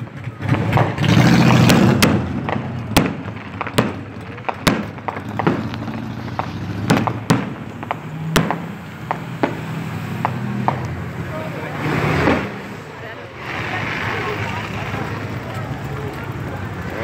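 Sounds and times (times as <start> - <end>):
fireworks banging and cracking: 0.0 - 17.0.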